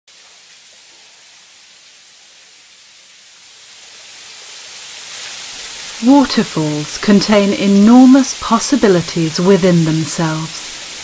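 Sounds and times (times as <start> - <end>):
waterfall hissing: 0.1 - 11.0.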